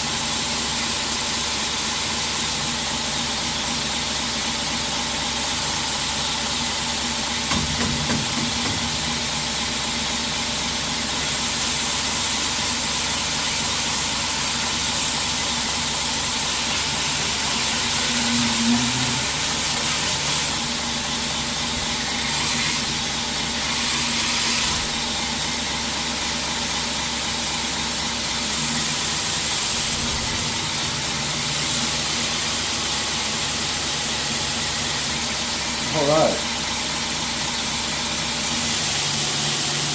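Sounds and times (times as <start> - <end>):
belt grinder hissing: 5.2 - 36.4, 37.4 - 39.9.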